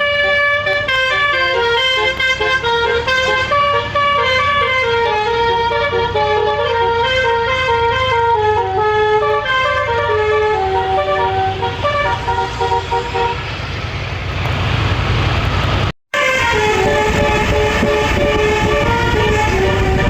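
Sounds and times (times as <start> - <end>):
bus horn playing a tune: 0.0 - 13.6, 16.1 - 20.0
engine and road rumble: 0.0 - 20.0.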